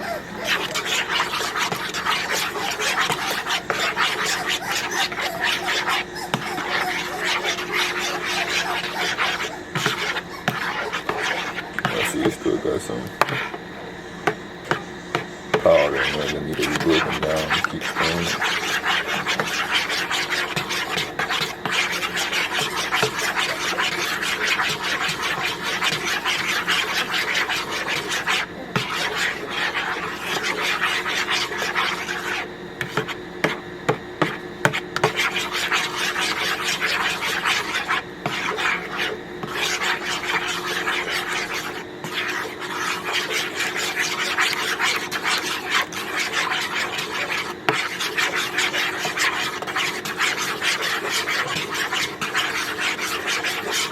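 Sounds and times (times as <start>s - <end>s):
utensil scraping in container: 0.4s - 13.6s, 14.3s - 33.6s, 34.2s - 53.9s.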